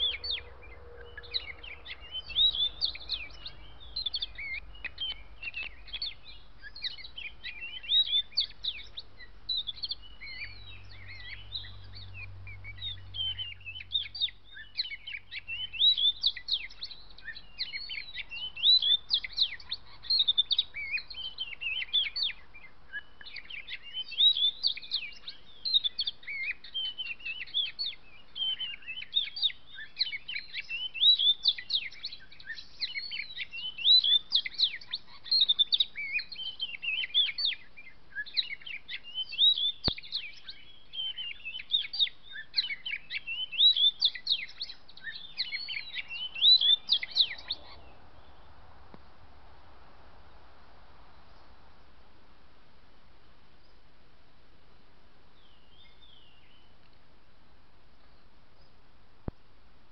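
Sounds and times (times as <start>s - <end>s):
bird singing whistled phrases: 0.0s - 48.4s.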